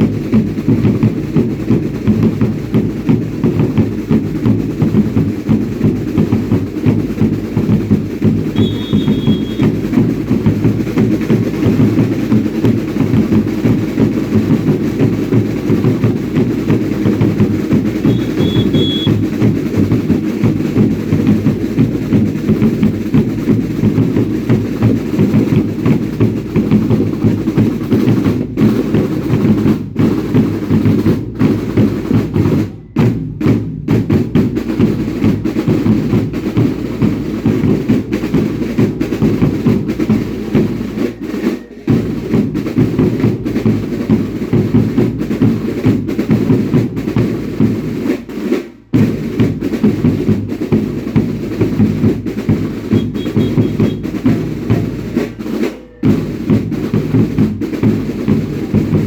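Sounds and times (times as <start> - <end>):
fast drumming: 0.0 - 59.0.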